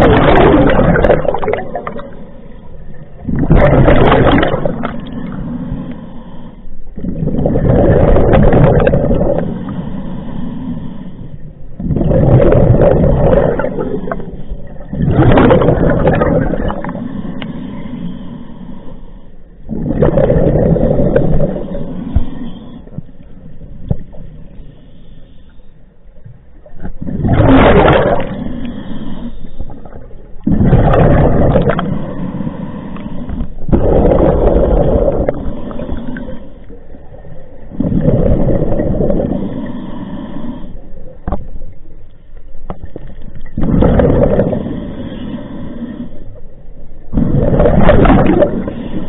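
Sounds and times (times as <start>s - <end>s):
exhaled bubbles underwater: 0.0s - 6.0s, 7.0s - 10.1s, 11.7s - 17.9s, 19.6s - 24.5s, 26.2s - 41.6s, 42.6s - 49.0s.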